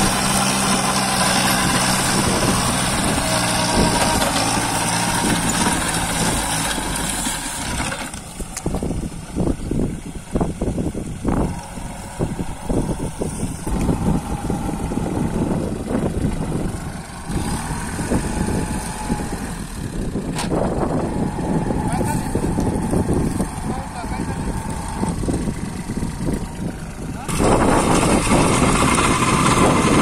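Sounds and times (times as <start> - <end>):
rotavator churning soil: 0.0 - 9.2, 11.4 - 30.0
tractor diesel engine under load: 0.0 - 30.0.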